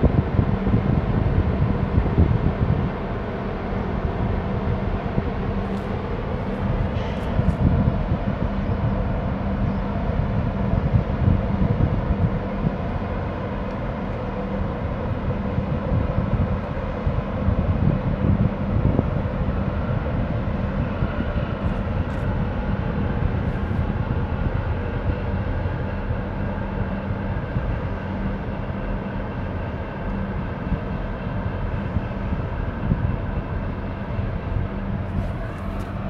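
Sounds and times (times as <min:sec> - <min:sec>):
boat diesel engine droning: 0:00.0 - 0:36.0
wind rumble on microphone: 0:00.0 - 0:36.0.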